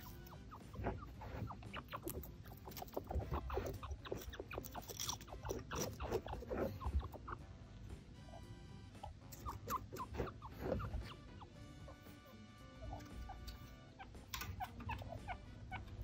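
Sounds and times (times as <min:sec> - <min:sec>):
chinchilla squeaking and chirping: 0:00.0 - 0:16.0.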